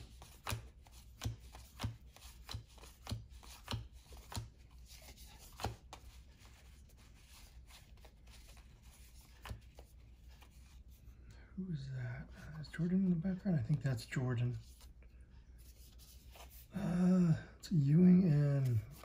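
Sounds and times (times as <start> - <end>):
soft card handling: 0.0 - 11.4, 12.2 - 16.7, 18.1 - 19.0.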